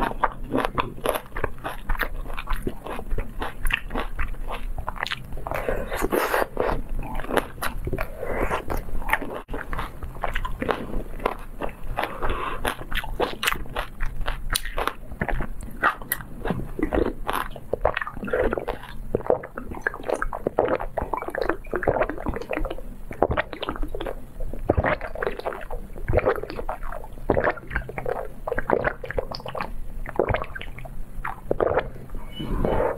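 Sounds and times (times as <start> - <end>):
mouth clicks and smacks: 0.0 - 32.2.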